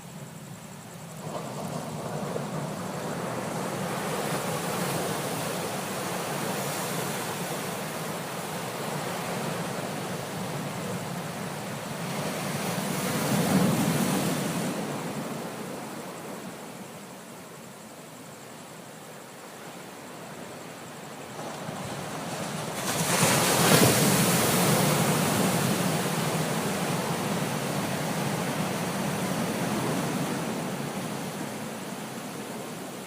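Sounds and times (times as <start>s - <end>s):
ocean waves washing in: 0.0s - 18.4s, 19.2s - 33.0s.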